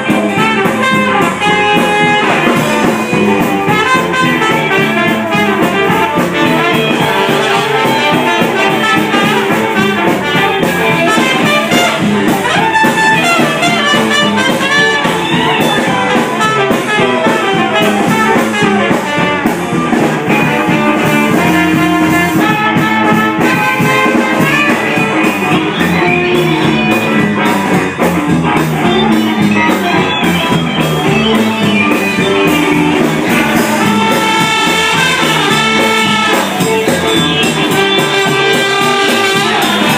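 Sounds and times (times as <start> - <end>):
loud music: 0.0 - 39.9.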